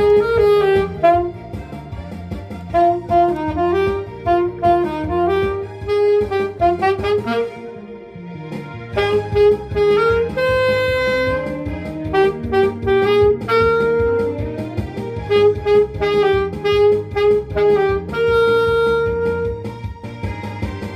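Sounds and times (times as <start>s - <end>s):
accompaniment with steady beat: 0.0s - 20.9s
saxophone melody: 0.0s - 20.9s.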